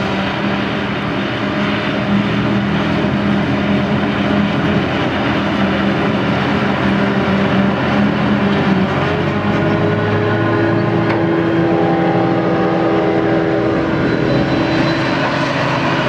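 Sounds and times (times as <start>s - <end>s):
forage harvester engine and chopping: 0.0s - 16.0s.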